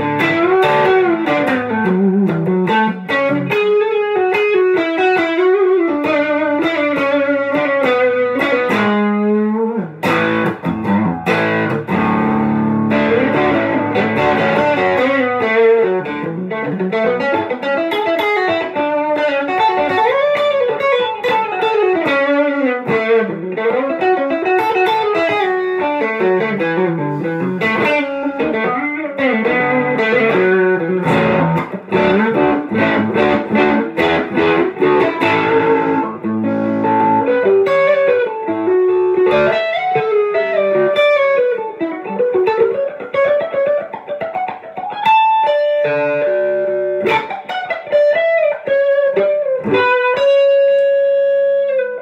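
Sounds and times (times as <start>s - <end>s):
electric guitar lead playing: 0.0s - 52.0s.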